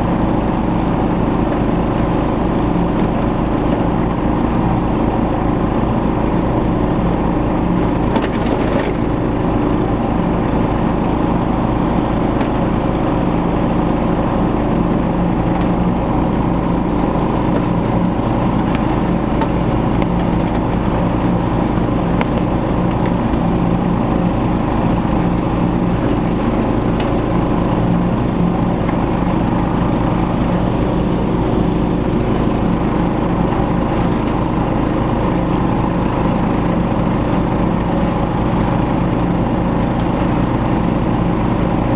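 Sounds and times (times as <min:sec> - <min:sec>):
lawn tractor engine running: 0:00.0 - 0:41.9
mower blades cutting grass: 0:00.0 - 0:41.9.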